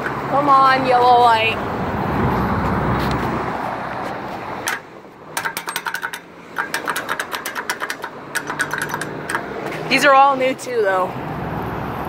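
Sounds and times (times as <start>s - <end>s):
passing car tyre noise: 0.0s - 12.0s.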